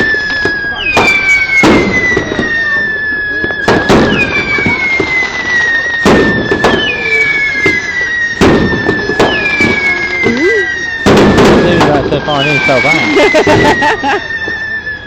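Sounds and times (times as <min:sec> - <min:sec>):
firework shells bursting: 0:00.0 - 0:02.8, 0:03.4 - 0:14.6
firework whistles sliding down: 0:00.0 - 0:15.0.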